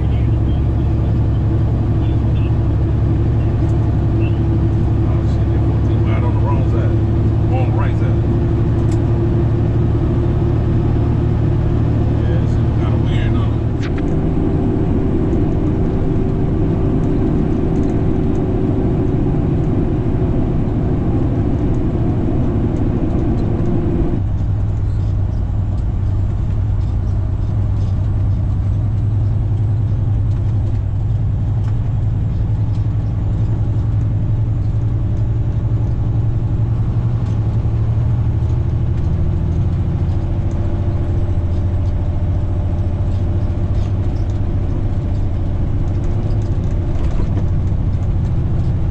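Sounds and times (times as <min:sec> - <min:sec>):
truck diesel engine running: 0:00.0 - 0:48.9.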